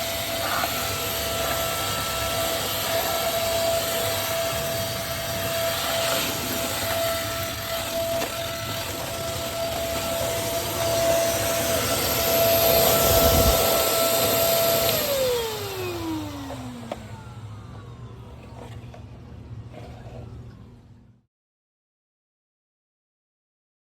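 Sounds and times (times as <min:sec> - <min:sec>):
stick vacuum whining: 0:00.0 - 0:21.1.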